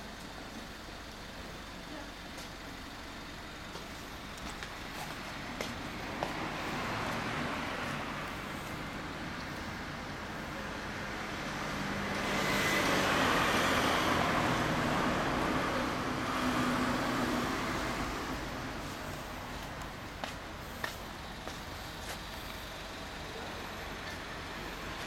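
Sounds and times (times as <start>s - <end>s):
traffic noise: 0.0s - 25.0s.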